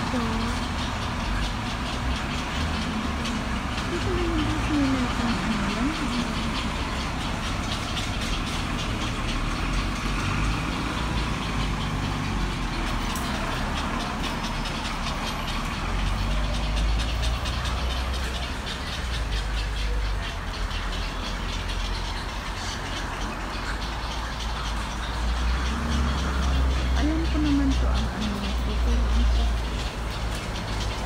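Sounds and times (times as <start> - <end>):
bus engine running: 0.0 - 31.0
street traffic rumble: 0.0 - 31.0.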